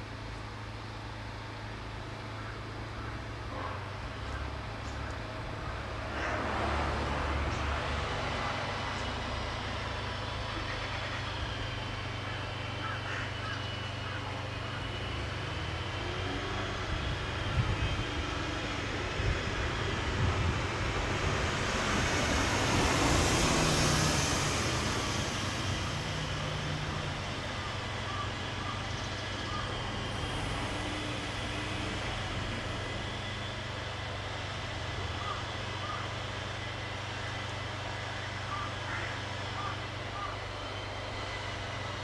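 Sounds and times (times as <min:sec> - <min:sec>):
steady low hum: 0:00.0 - 0:42.0
passing motor vehicle: 0:00.7 - 0:42.0.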